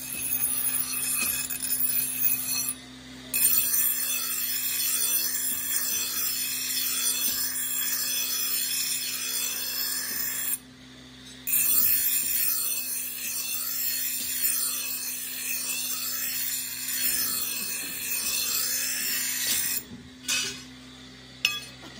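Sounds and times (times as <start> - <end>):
grinder wheel grinding steel: 0.0 - 10.6, 11.2 - 21.9
grinder motor hum: 0.0 - 21.9.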